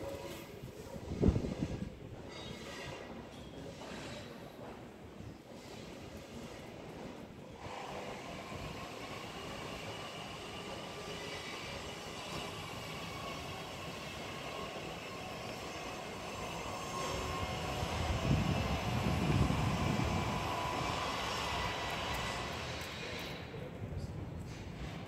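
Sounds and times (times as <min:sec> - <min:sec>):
city street hum: 0:00.0 - 0:25.0.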